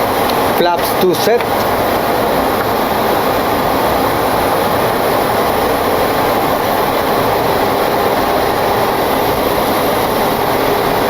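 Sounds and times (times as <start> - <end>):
cockpit airflow and engine noise: 0.0 - 11.0.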